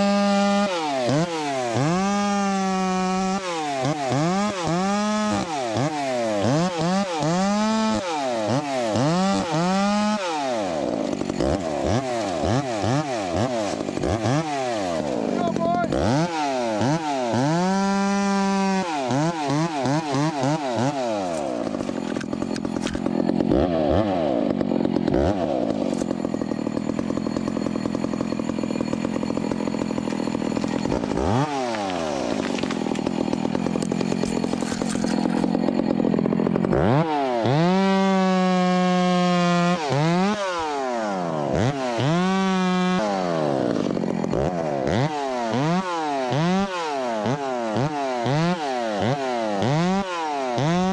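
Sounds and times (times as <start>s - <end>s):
small chainsaw revving: 0.0s - 50.9s.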